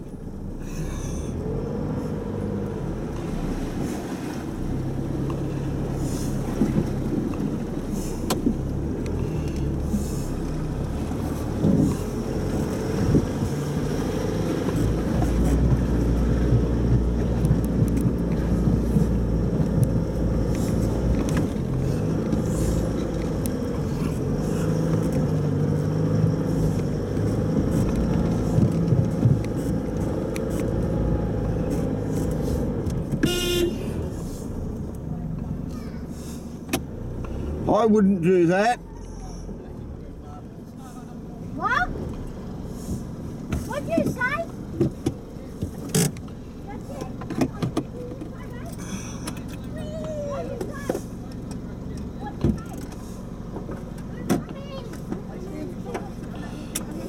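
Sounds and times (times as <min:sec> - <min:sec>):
vehicle engine on rough track: 0:00.0 - 0:57.0.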